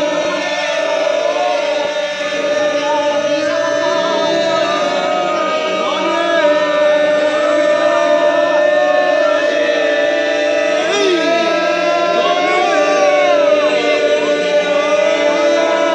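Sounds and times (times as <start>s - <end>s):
chanting voices: 0.0s - 15.9s
held drone note: 0.0s - 15.9s.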